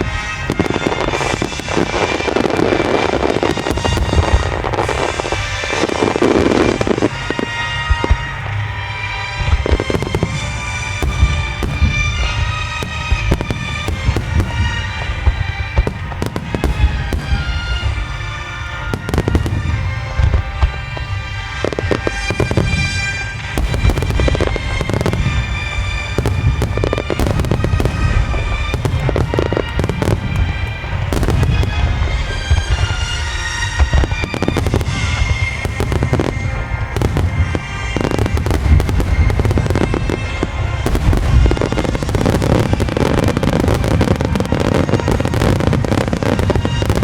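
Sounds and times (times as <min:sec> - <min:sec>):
fireworks bangs and crackles: 0:00.0 - 0:47.0
music of sustained tones: 0:00.0 - 0:47.0.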